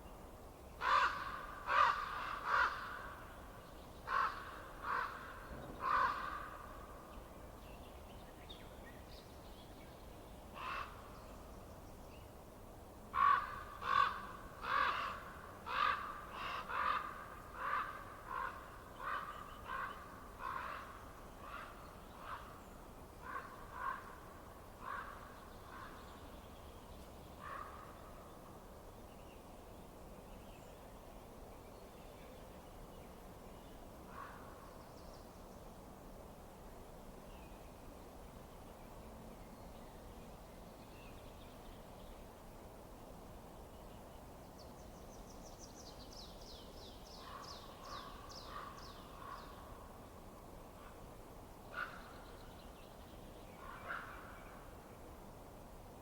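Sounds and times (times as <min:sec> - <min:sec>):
faint steady hiss: 0:06.4 - 0:56.0.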